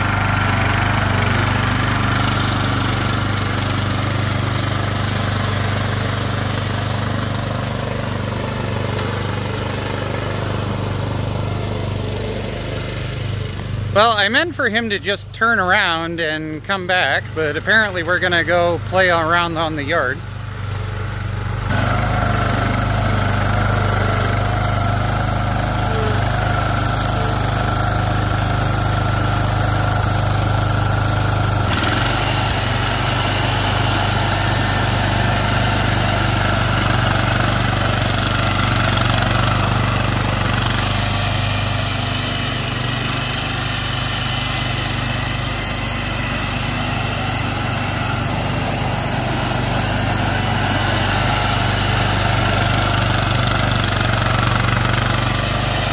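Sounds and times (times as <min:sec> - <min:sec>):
mower engine running: 0:00.0 - 0:55.9.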